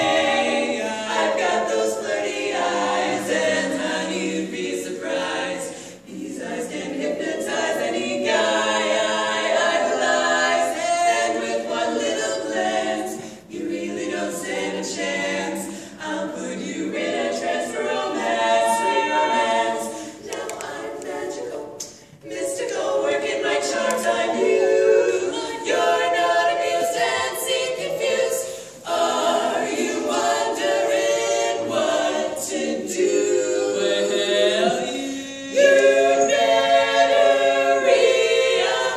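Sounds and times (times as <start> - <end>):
women singing a cappella: 0.0 - 38.9.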